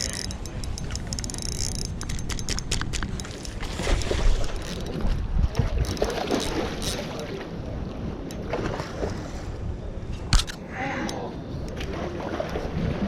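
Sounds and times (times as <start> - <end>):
microphone rumble and handling noise: 0.0 - 10.6.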